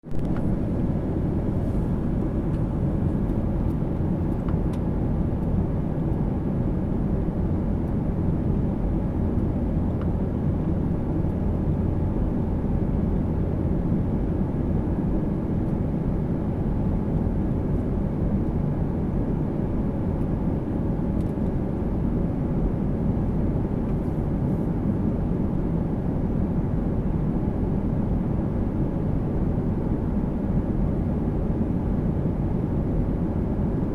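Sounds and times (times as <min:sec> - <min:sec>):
airliner engine drone: 0:00.1 - 0:33.9.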